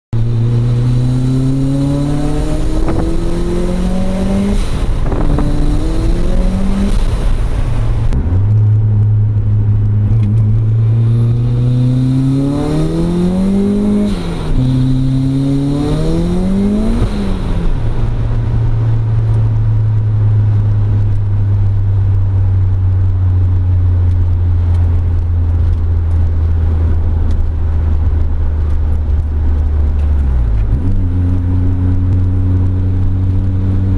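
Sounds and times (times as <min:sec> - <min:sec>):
car engine accelerating and upshifting: 0:00.2 - 0:33.9.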